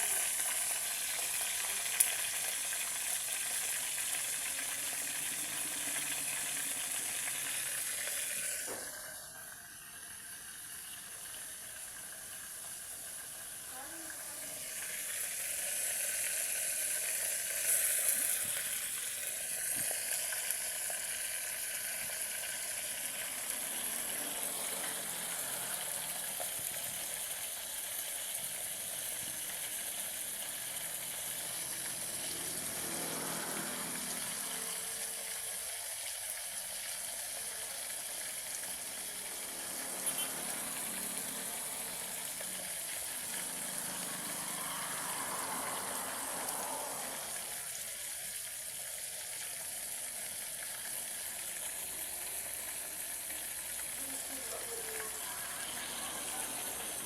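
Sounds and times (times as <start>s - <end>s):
chicken frying in hot oil: 0.0s - 57.0s.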